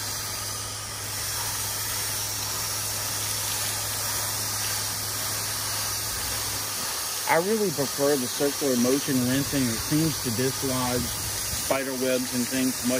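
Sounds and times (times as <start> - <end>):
pressure washer spray hissing: 0.0 - 12.9.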